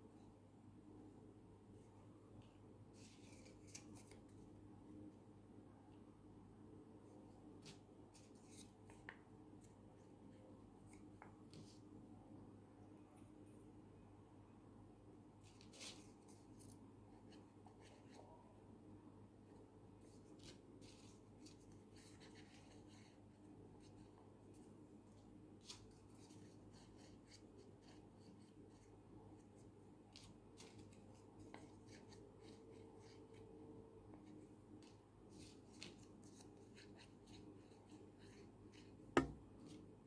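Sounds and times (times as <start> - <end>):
faint low hum: 0.0 - 40.0.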